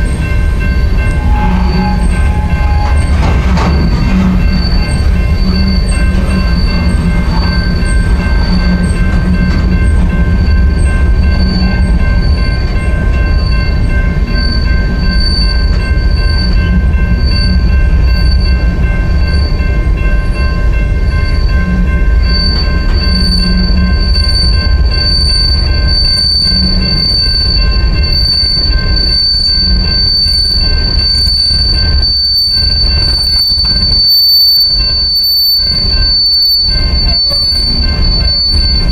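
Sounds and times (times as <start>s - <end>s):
high thin wheel squeal: 0.0s - 10.0s, 10.8s - 19.7s, 21.1s - 38.9s
freight train wheels rumbling on rails: 0.0s - 38.9s.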